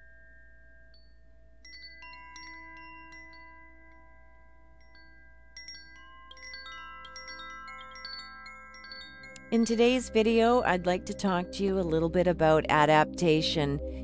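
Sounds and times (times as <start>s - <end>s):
chimes ringing: 0.0s - 11.7s.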